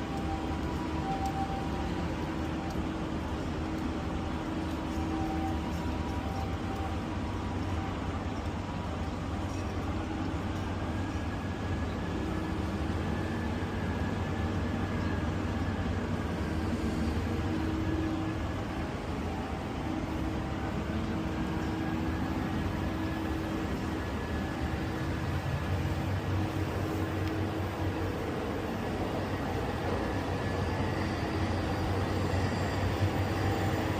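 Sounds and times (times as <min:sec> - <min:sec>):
faint constant hum: 0:00.0 - 0:33.9
low mechanical rumble: 0:00.0 - 0:33.9.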